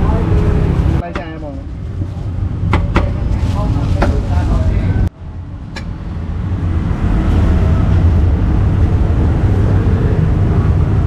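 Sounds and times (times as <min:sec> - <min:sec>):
low street rumble: 0:00.0 - 0:11.0.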